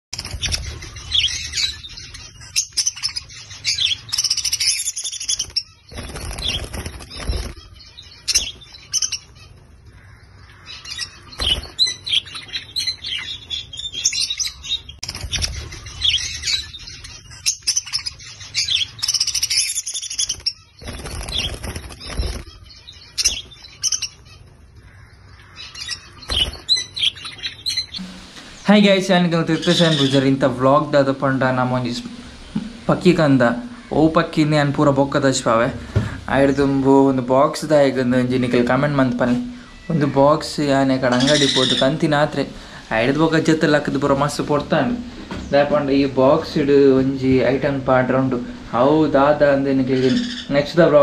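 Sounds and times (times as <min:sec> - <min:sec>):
budgerigars chirping and chattering: 0:00.1 - 0:51.0.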